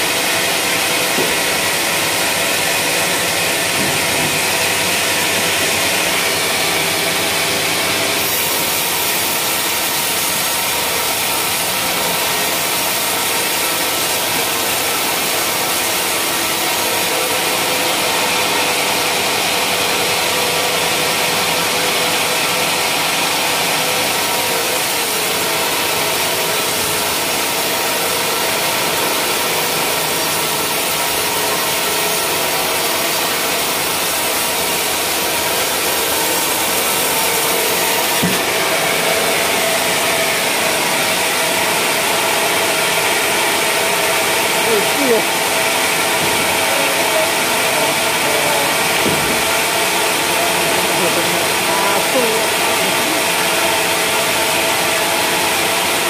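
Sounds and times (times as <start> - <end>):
sawmill motor running: 0.0 - 56.0.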